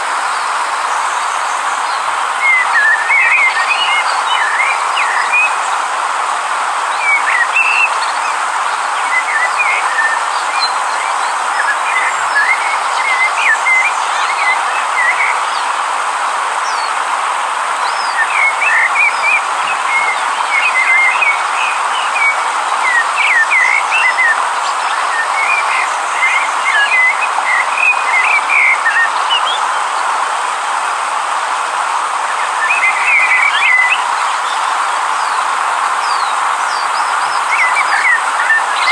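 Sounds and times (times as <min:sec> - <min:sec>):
birds chirping: 0:00.0 - 0:15.9, 0:16.6 - 0:38.9
river flowing: 0:00.0 - 0:38.9.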